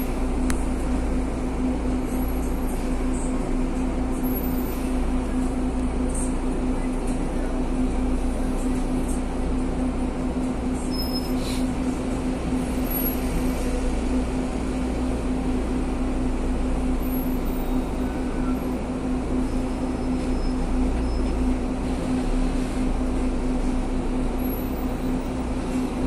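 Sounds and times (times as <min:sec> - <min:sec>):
bus engine rumbling: 0:00.0 - 0:26.0.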